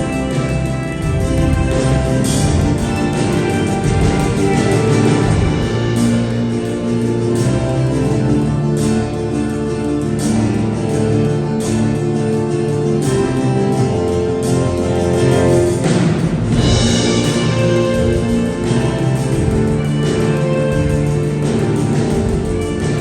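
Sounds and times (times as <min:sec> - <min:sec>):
band playing: 0:00.0 - 0:23.0
guitar sustained notes: 0:00.0 - 0:23.0.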